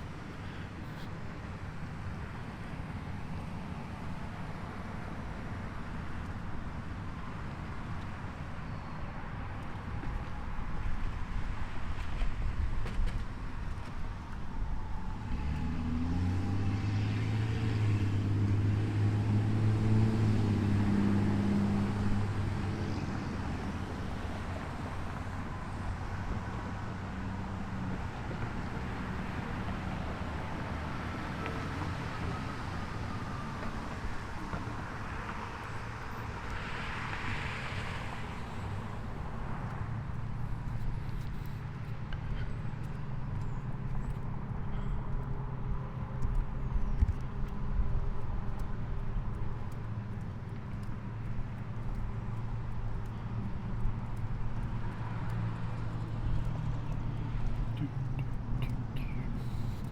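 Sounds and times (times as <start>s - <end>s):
traffic noise: 0.0s - 59.9s.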